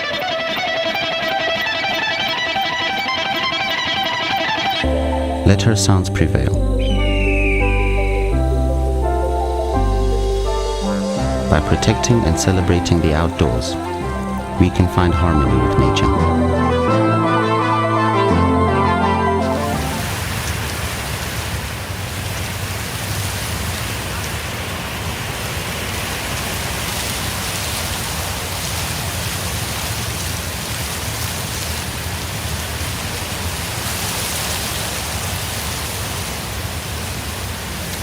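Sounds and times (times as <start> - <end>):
steady rainfall hiss: 0.0 - 15.9, 19.0 - 38.0.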